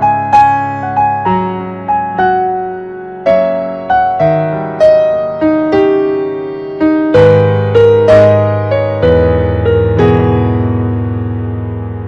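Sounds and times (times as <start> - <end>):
slow electric piano melody: 0.0 - 12.0.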